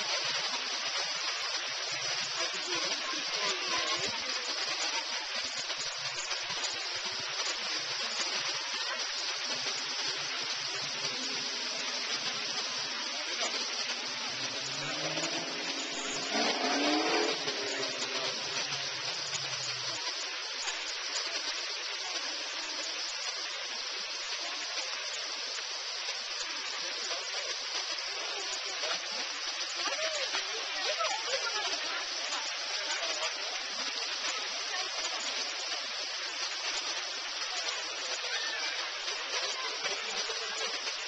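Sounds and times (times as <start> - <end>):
fountain water splashing: 0.0 - 41.0.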